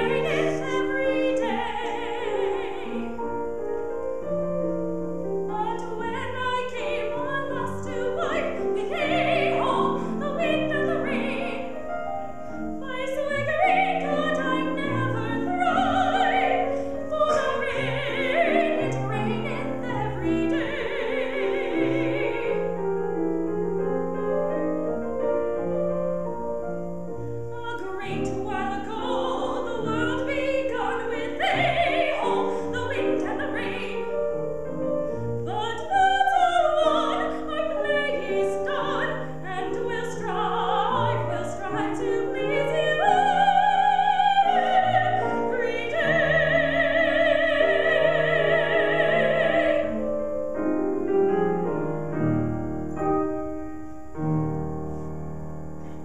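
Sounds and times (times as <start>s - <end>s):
piano accompaniment: 0.0s - 56.0s
soprano singing: 0.0s - 56.0s.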